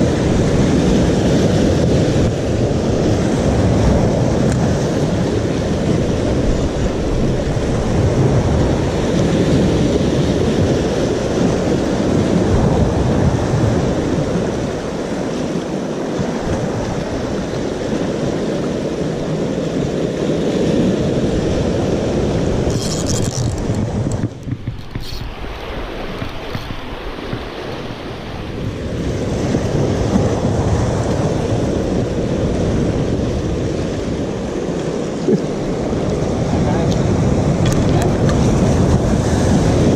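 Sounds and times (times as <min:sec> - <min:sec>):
surf breaking over rocks: 0:00.0 - 0:39.9
wind buffeting microphone: 0:00.0 - 0:39.9.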